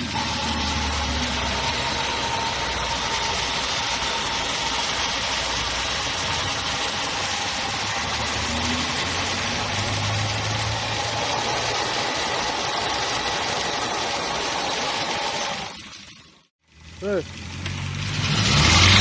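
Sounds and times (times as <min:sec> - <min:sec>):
engine ticking: 0:00.0 - 0:15.7
petrol engine idling: 0:00.0 - 0:17.8.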